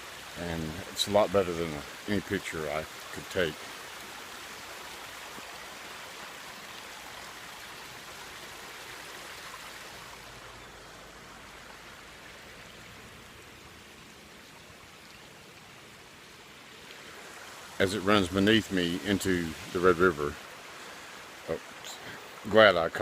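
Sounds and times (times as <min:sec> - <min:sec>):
water trickling and splashing: 0:00.0 - 0:23.0.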